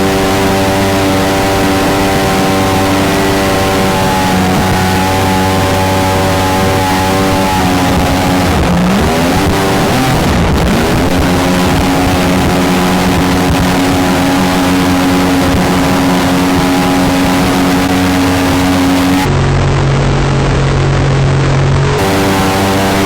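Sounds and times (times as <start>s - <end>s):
jet boat engine running: 0.0s - 23.0s
rush of wind and water: 0.0s - 23.0s.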